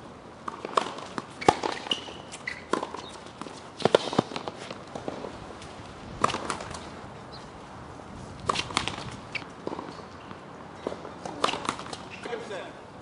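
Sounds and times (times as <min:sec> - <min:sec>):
racket hitting tennis ball: 0:00.4 - 0:07.0, 0:08.4 - 0:12.5.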